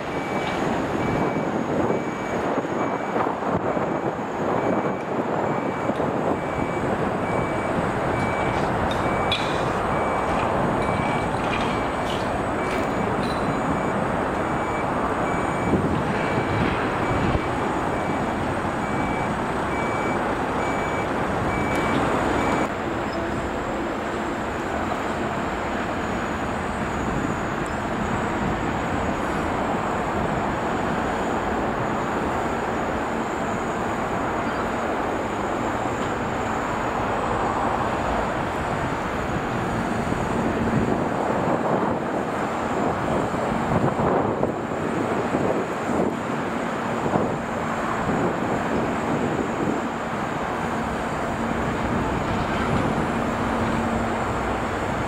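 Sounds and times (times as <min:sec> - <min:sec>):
crane diesel engine running: 0:00.0 - 0:55.0.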